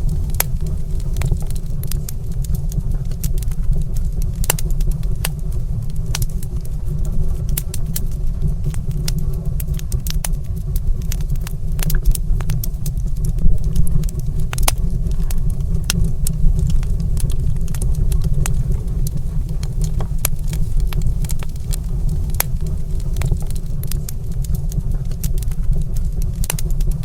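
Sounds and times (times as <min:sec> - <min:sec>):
fire crackling in a fireplace: 0:00.0 - 0:27.0
low fire rumble: 0:00.0 - 0:27.0.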